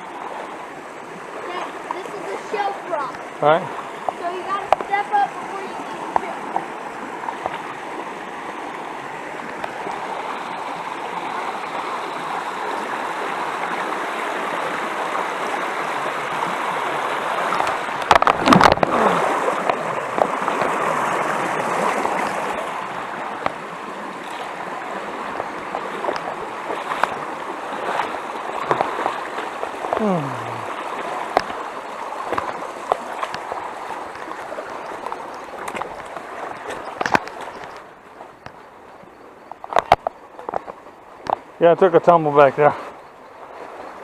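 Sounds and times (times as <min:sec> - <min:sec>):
stream rushing over rocks: 0:00.0 - 0:44.0.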